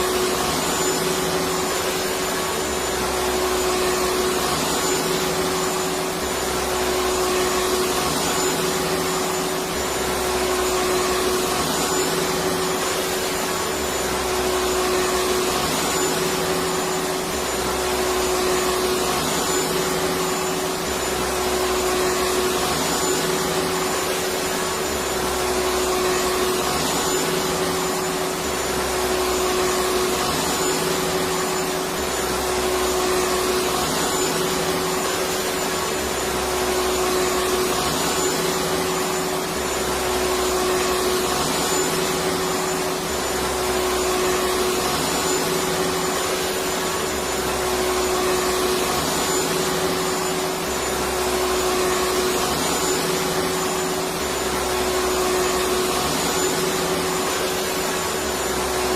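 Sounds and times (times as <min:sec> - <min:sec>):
vacuum cleaner motor humming: 0:00.0 - 0:58.9.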